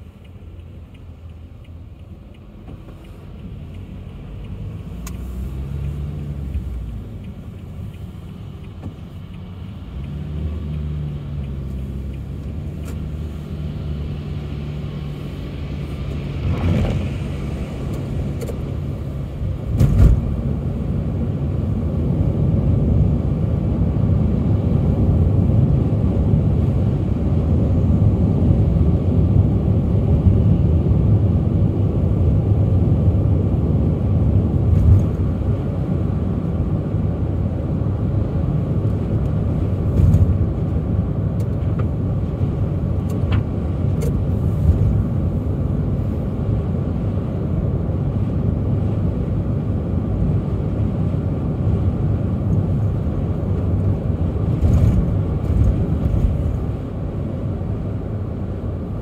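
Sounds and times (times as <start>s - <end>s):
car engine rumble: 0.0s - 59.0s
tyres on the road: 0.0s - 59.0s.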